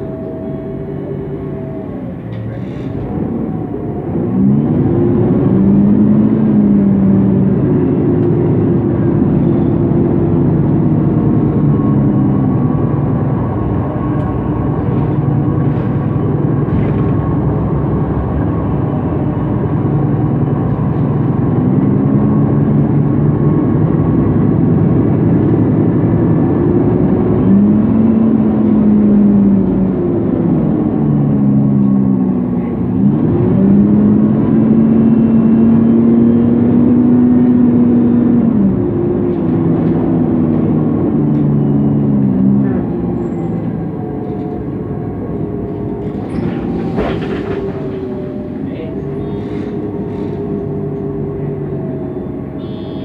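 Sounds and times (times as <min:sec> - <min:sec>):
bus engine running under load: 0:00.0 - 0:53.0.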